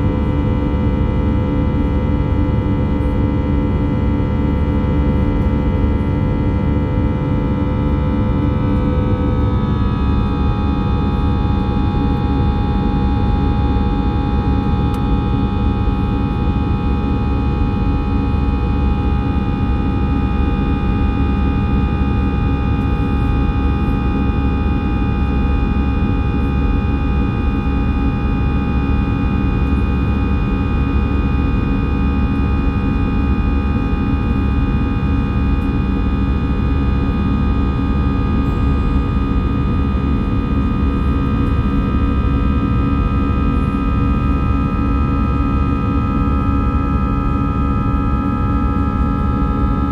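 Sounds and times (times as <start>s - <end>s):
airplane cabin rush and rumble: 0.0s - 49.9s.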